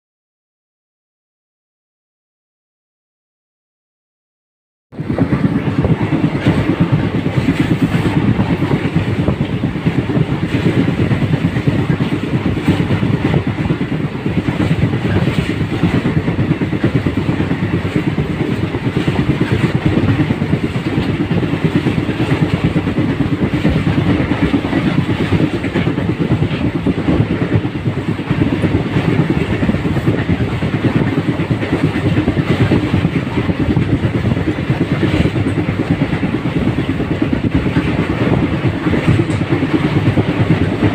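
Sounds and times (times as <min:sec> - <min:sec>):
vehicle rumbling in motion: 0:04.9 - 0:40.9.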